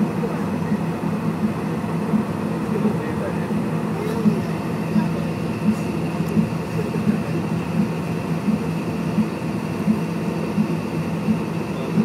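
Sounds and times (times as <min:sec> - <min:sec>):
jet cabin hum: 0:00.0 - 0:12.0.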